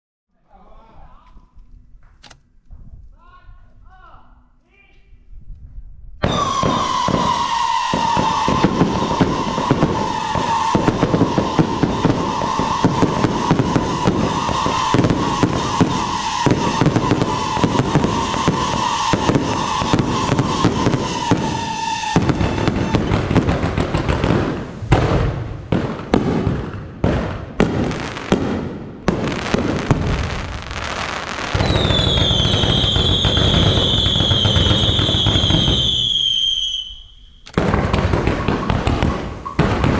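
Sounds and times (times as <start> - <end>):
fireworks bangs: 6.2 - 39.9
fireworks crackling and popping: 6.2 - 39.9
fireworks whistling: 6.2 - 39.9.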